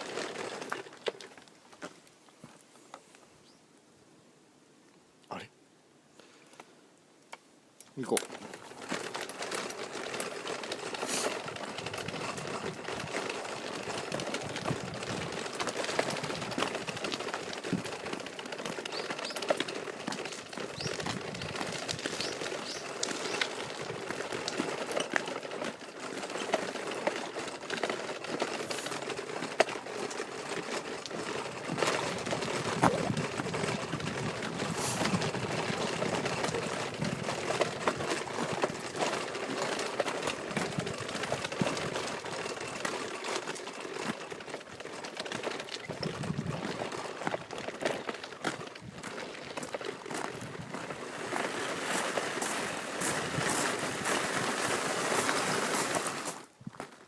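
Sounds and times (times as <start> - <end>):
pushchair rattling over rough road: 0.0 - 3.0, 7.9 - 57.0.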